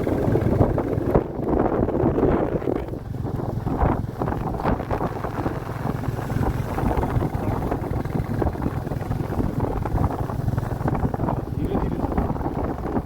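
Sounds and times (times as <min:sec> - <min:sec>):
motorcycle engine thumping: 0:00.0 - 0:13.0
wind rushing over microphone: 0:00.0 - 0:13.0.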